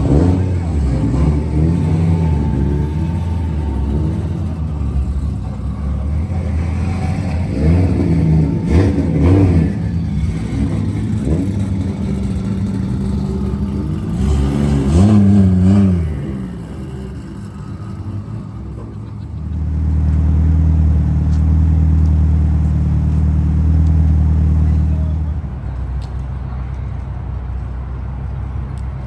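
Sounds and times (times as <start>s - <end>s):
car engines running: 0.0s - 29.0s.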